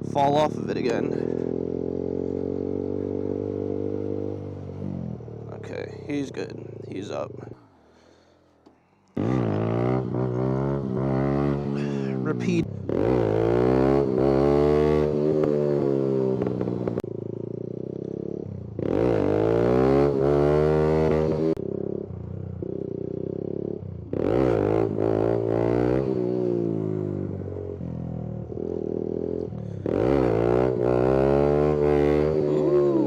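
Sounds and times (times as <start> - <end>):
motorcycle engine revving: 0.0 - 8.2, 9.2 - 33.0.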